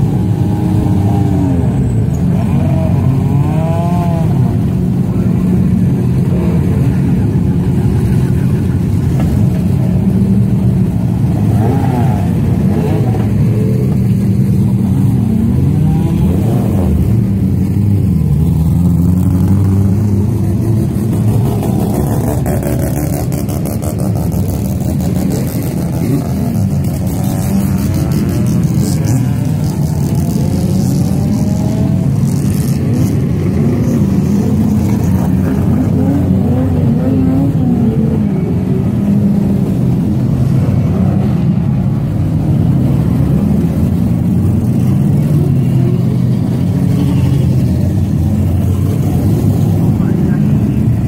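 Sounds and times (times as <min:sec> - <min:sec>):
racing car engines revving: 0:00.0 - 0:51.0.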